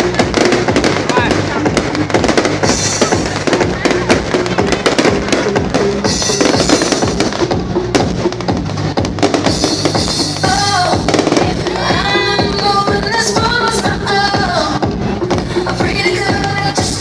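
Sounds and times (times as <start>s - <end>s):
festival music with heavy drum beat: 0.0s - 17.0s
fireworks bangs and crackles: 0.0s - 17.0s.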